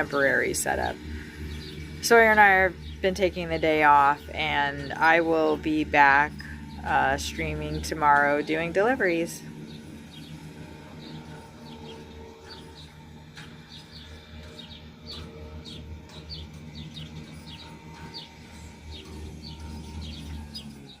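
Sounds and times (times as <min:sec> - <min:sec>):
lawn mower engine drone: 0:00.0 - 0:21.0
songbirds chirping: 0:00.0 - 0:21.0.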